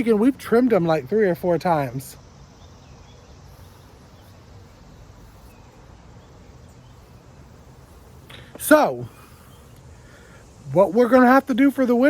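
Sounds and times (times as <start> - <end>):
faint chirps: 1.2 - 12.0.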